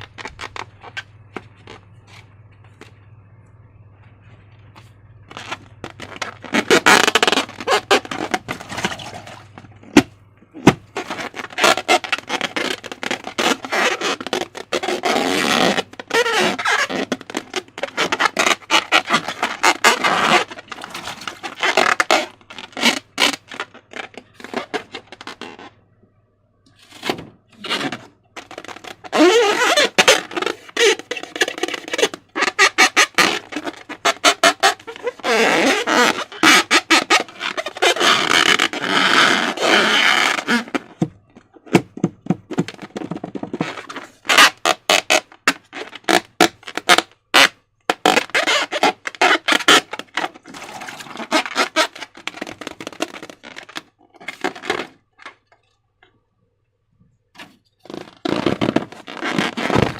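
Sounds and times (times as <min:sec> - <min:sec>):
squeaky rubbery balloon whines: 0:05.3 - 0:25.8, 0:26.8 - 0:41.1, 0:42.5 - 0:55.0, 0:57.8 - 0:59.9.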